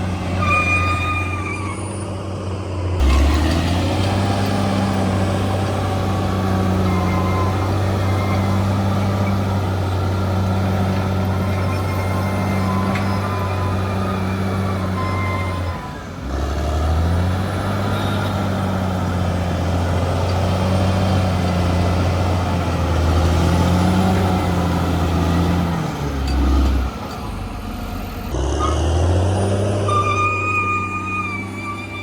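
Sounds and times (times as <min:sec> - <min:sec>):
bulldozer diesel engine: 0:00.0 - 0:32.0.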